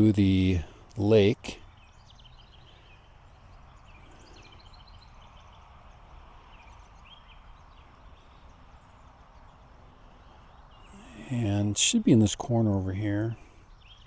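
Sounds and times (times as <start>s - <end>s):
bird chirps and trills: 0.0s - 14.0s.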